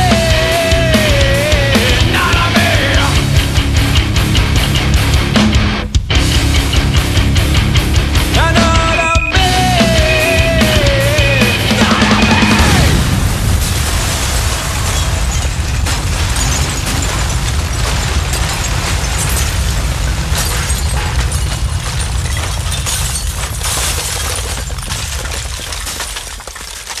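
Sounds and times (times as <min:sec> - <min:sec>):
distorted heavy rock noise: 0:00.0 - 0:25.6.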